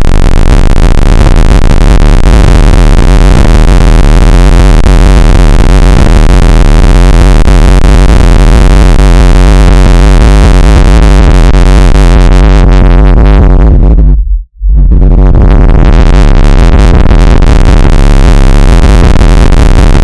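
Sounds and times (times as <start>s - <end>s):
harsh electronic noise: 0.0s - 20.0s.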